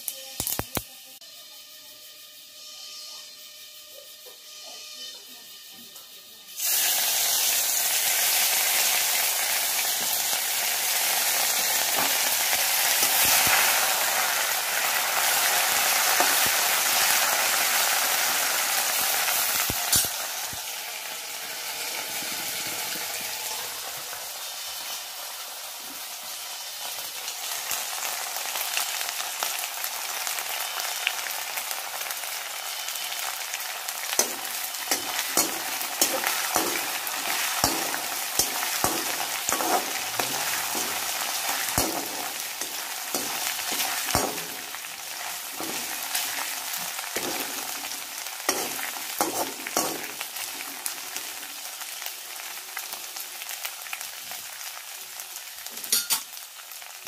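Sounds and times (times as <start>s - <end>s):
seeds sizzling in hot oil: 0.0s - 57.0s.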